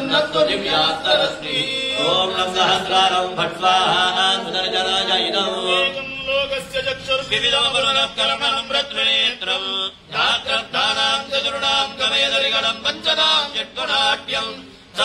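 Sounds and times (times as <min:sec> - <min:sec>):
men chanting hymn verses: 0:00.0 - 0:15.0.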